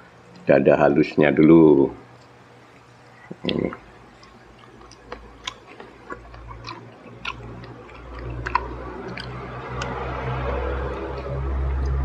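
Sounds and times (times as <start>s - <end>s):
chewing crispy fried chicken: 2.2s - 12.0s.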